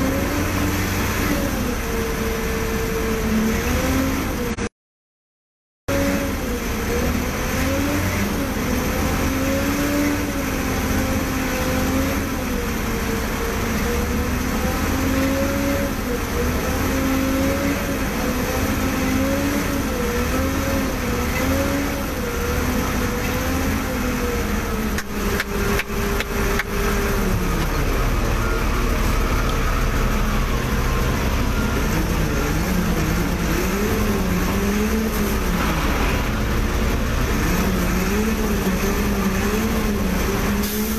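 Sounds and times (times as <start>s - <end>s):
diesel engine running under load: 0.0s - 4.7s, 5.9s - 40.9s.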